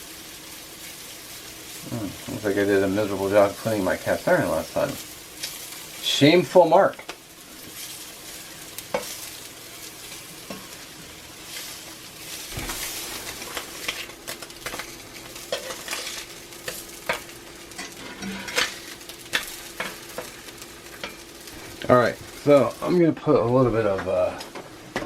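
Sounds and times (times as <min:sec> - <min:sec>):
meat sizzling in a skillet: 0:00.0 - 0:25.0
steady hum: 0:00.0 - 0:25.0.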